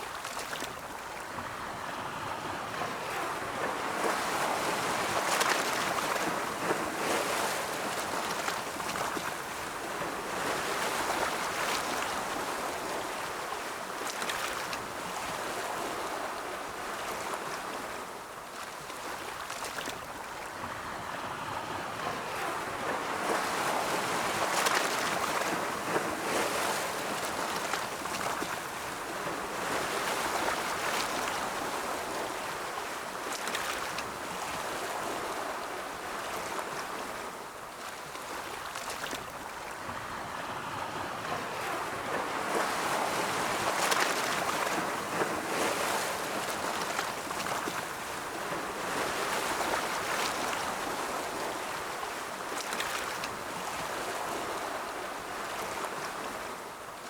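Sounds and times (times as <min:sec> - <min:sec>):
ocean waves on shore: 0:00.0 - 0:57.0.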